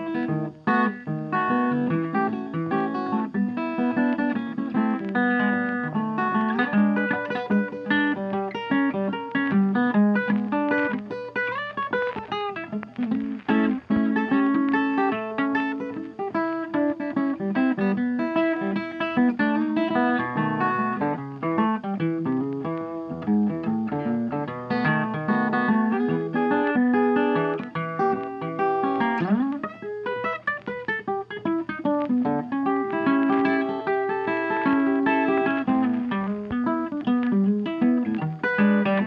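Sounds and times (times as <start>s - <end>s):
plucked blues guitar: 0.0s - 39.0s.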